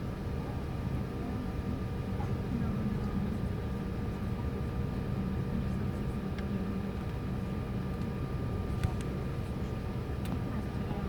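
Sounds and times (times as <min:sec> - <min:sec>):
airliner mechanical drone: 0:00.0 - 0:11.0.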